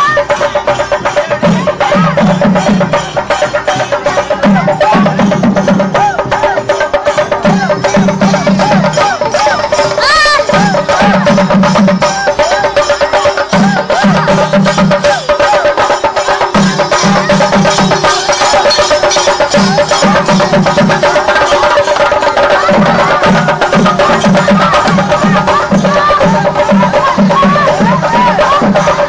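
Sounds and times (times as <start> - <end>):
fast dense drumming: 0.0 - 29.0
wavering melody: 0.6 - 29.0.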